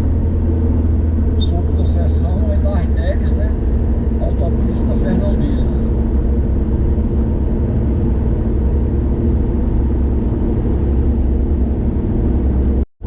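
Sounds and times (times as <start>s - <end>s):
car engine and tyre noise: 0.0s - 12.8s.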